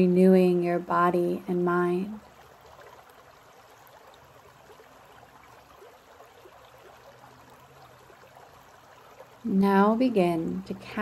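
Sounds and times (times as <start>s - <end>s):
creek running over rocks: 0.0s - 11.0s.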